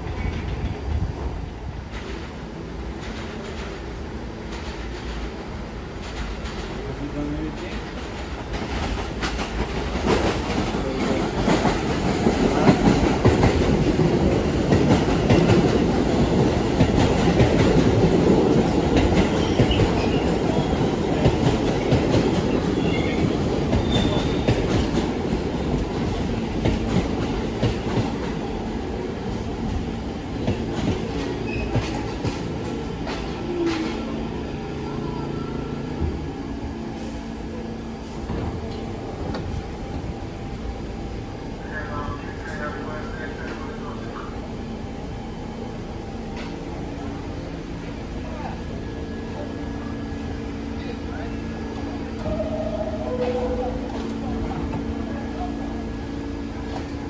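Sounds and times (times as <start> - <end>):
subway train passing on tracks: 0.0 - 57.0.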